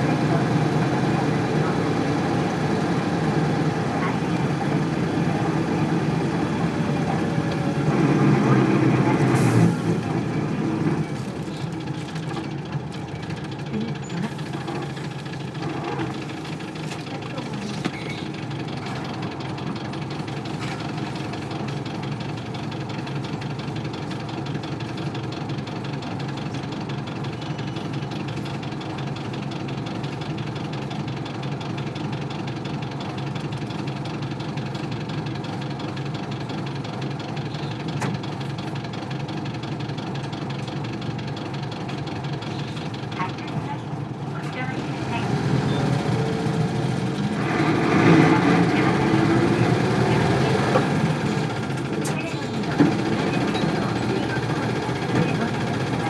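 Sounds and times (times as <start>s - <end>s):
diesel engine idling unevenly: 0.0s - 56.0s.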